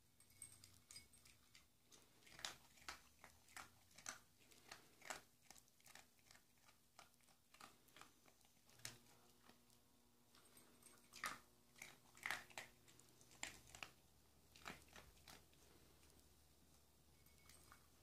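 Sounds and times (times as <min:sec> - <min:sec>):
dog crunching kibble: 0:00.6 - 0:16.2.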